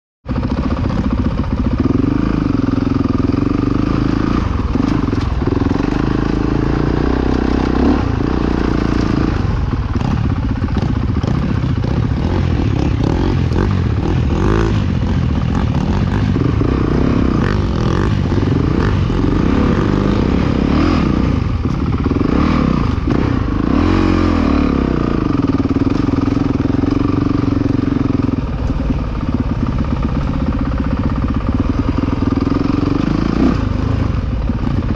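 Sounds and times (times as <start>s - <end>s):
dirt bike engine revving: 0.3s - 34.9s
knocks and rattles of bike: 0.3s - 34.9s.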